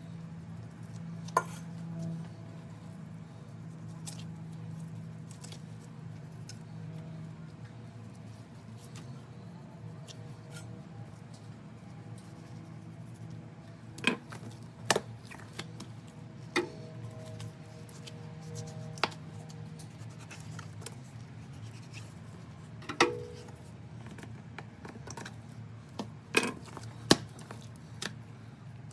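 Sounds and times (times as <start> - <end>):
meat handling noises: 0.2 - 28.9.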